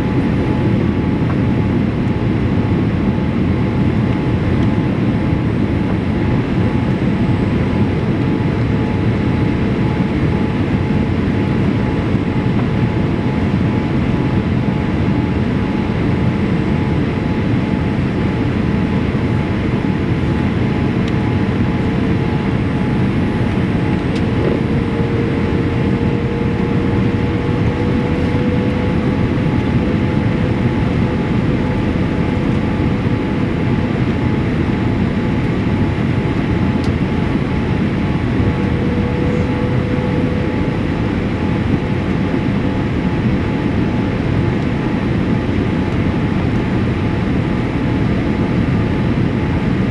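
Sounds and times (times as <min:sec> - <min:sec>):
airplane cabin airflow and engine: 0:00.0 - 0:49.9
faint steady whine: 0:02.9 - 0:14.5, 0:15.2 - 0:49.9.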